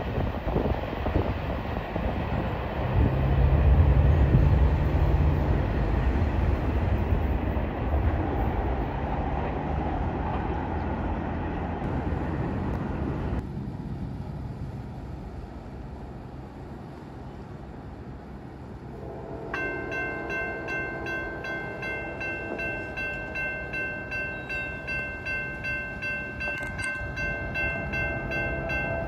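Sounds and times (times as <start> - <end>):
diesel locomotive engine drone: 0.0 - 29.0
rumble of rolling train cars: 0.0 - 29.0.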